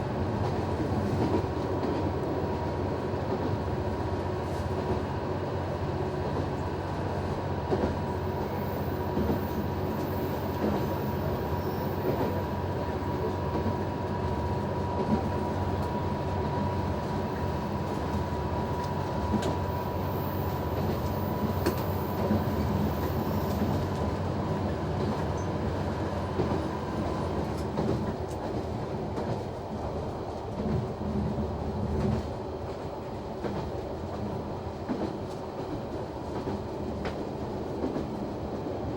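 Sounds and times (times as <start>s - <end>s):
clickety-clack of rail joints: 0.0s - 38.9s
railcar engine and wheels rumble: 0.0s - 38.9s.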